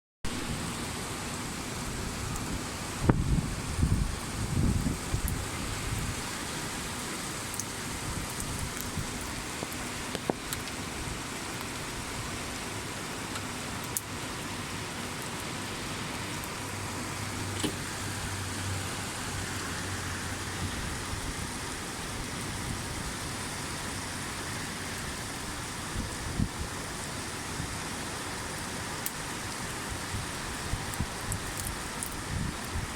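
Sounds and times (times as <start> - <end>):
steady rain falling: 0.3 - 32.9
raindrops ticking close by: 2.3 - 32.9.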